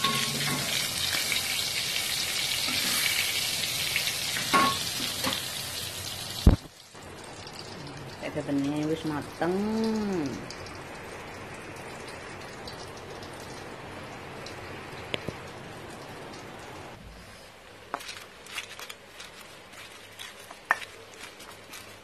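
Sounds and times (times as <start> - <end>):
soup boiling and bubbling: 0.0 - 18.4.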